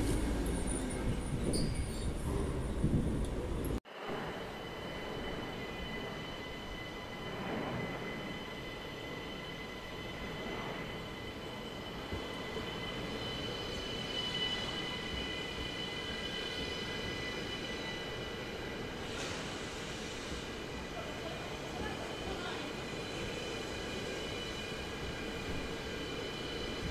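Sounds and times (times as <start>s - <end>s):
high-pitched train whine: 0.0s - 26.9s.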